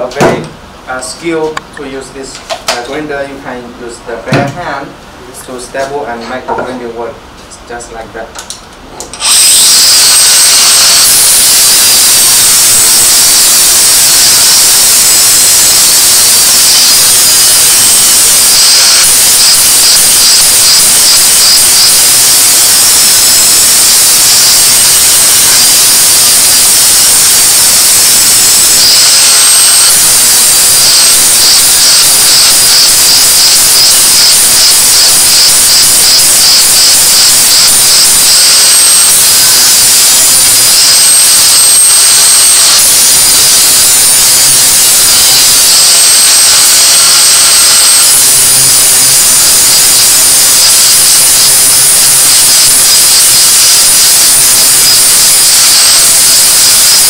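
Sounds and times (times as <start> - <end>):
angle grinder grinding metal: 9.2 - 57.0.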